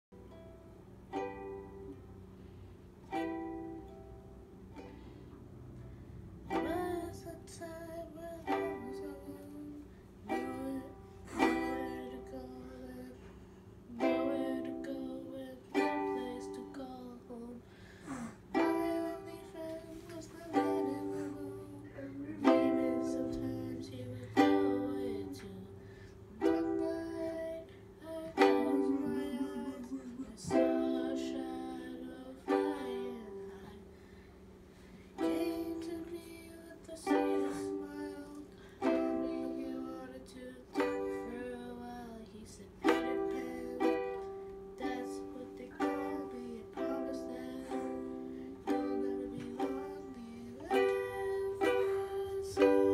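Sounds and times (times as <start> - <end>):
ukulele strummed slowly: 0.0 - 52.9.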